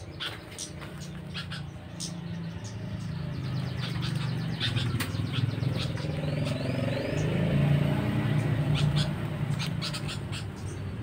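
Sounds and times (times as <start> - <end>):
birds chirping: 0.0 - 11.0
motor vehicle engine running: 0.0 - 11.0.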